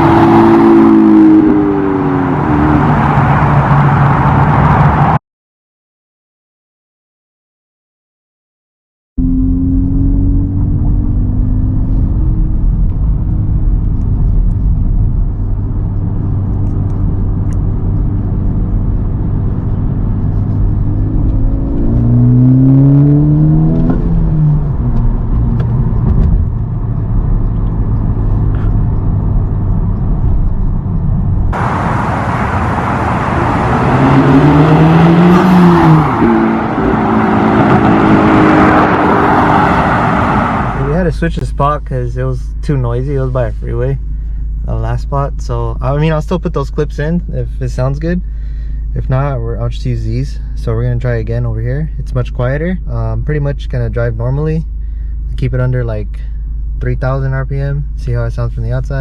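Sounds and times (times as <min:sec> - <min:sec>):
car engine driving: 0:00.0 - 0:05.2, 0:09.2 - 0:59.0.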